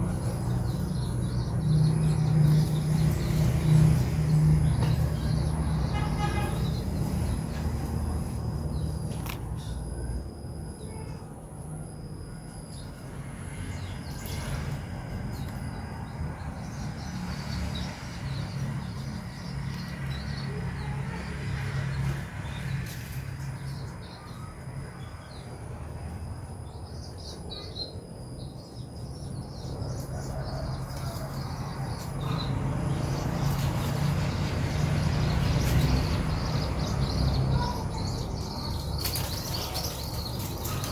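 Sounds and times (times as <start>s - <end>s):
low rumbling background noise: 0.0s - 40.9s.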